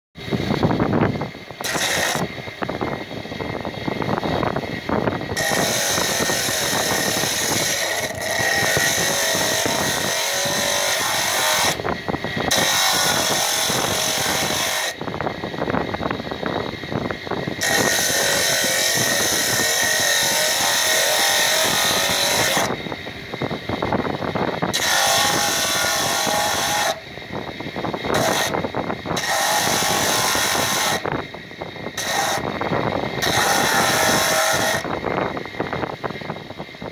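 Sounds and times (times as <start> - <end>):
motor running: 0.2 - 36.1
rock salt grinding on spinning disc: 1.5 - 15.7, 16.3 - 27.1, 27.8 - 35.9.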